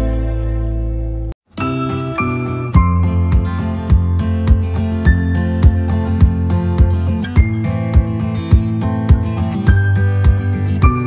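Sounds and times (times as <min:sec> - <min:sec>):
acoustic guitar strumming: 0:00.0 - 0:11.0
background music with steady beat: 0:00.0 - 0:11.0.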